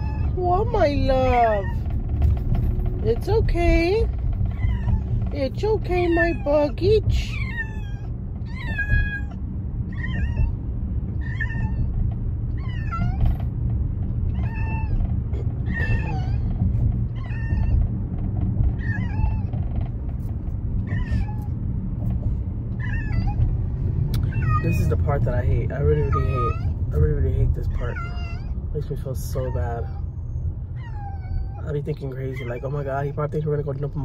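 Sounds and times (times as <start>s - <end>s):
low car rumble: 0.0s - 34.0s.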